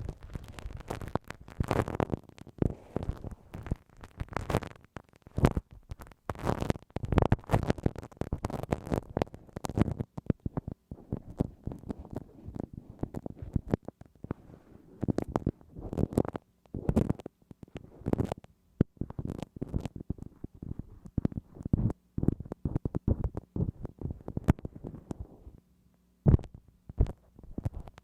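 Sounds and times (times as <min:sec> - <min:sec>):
ear pick scraping microphone: 0:00.0 - 0:25.6, 0:26.3 - 0:28.0.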